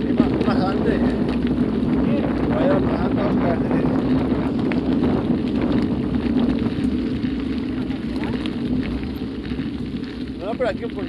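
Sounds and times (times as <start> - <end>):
bike tyres rolling on gravel: 0.0 - 11.0
wind on microphone: 0.0 - 11.0.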